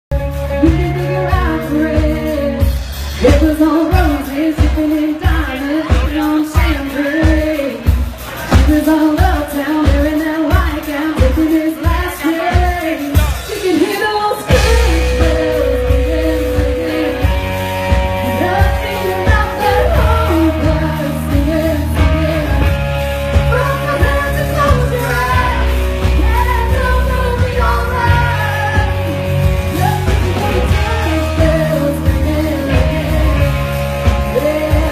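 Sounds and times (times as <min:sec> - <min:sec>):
live band playing country-pop: 0:00.1 - 0:34.9
steady drum beat: 0:00.1 - 0:34.9
lead singer singing: 0:00.2 - 0:34.9.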